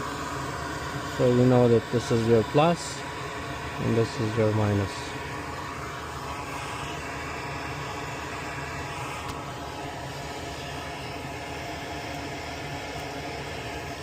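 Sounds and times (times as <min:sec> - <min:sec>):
steady mechanical fan noise: 0:00.0 - 0:14.0.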